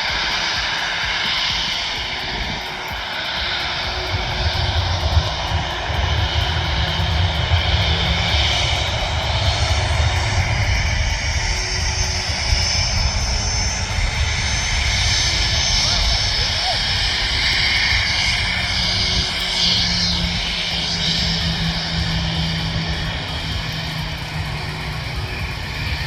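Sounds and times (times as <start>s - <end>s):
deep rough jet rumble: 0.0s - 26.0s
jet engine high whine: 0.0s - 26.0s.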